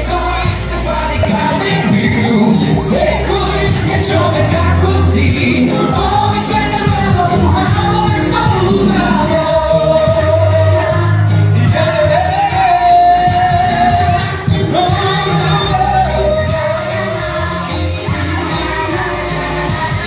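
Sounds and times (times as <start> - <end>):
band with bass and drums: 0.0 - 20.0
voices singing high notes: 0.0 - 20.0.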